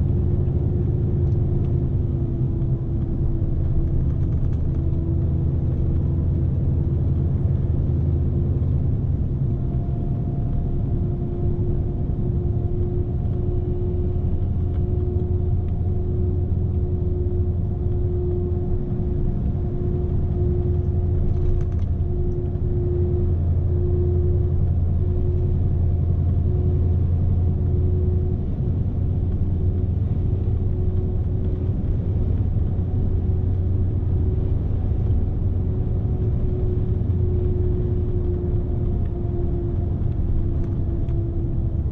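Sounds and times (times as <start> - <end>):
road rumble: 0.0 - 41.9
steady hum: 0.0 - 41.9
truck engine running: 0.0 - 41.9.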